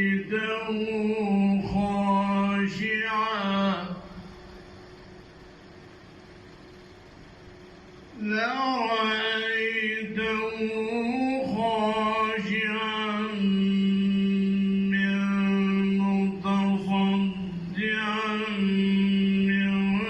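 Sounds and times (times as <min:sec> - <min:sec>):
man reciting melodically: 0:00.0 - 0:04.3, 0:08.1 - 0:20.0.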